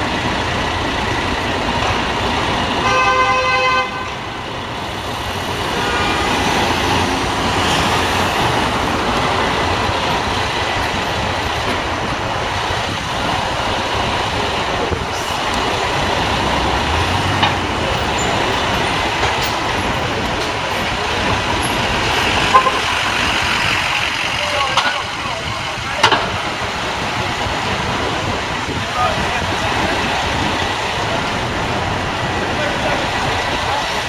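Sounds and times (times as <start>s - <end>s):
passing traffic: 0.0s - 34.0s
tow truck engine running: 0.0s - 34.0s.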